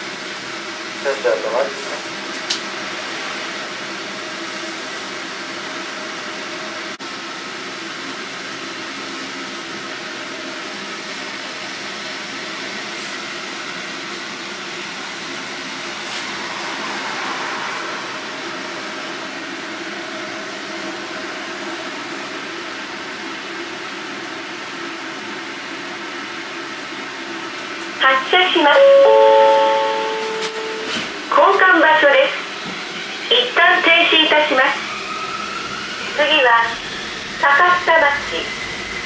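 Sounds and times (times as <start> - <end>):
tram equipment humming: 0.0 - 39.0.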